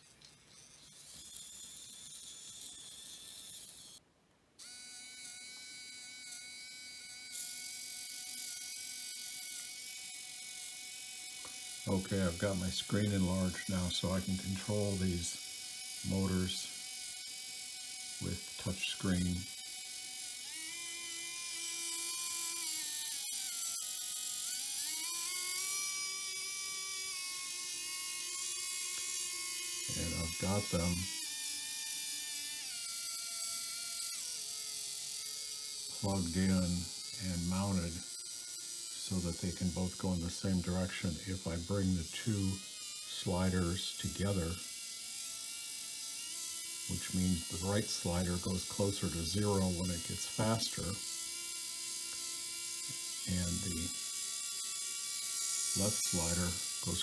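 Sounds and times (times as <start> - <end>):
servo motors whirring: 0.0 - 4.0, 4.6 - 57.0.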